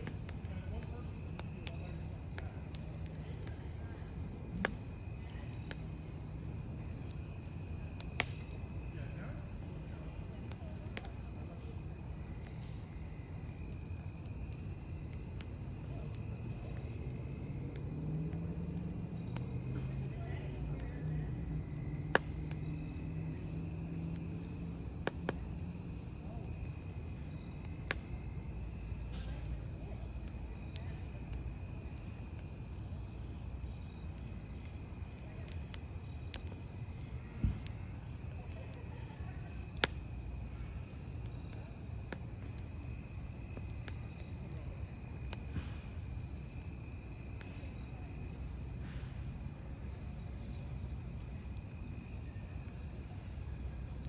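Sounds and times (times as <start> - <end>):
burning logs popping: 0.0 - 49.4
crackling wood campfire: 0.0 - 54.0
crickets chirping: 0.0 - 54.0.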